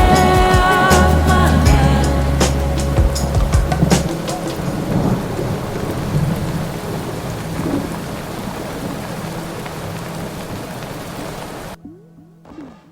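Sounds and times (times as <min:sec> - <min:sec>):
steady rain: 0:00.0 - 0:11.8.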